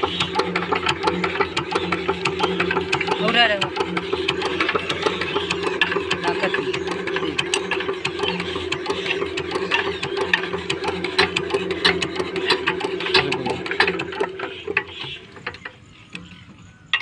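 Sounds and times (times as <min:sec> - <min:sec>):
diesel engine turning over: 0:00.0 - 0:17.0.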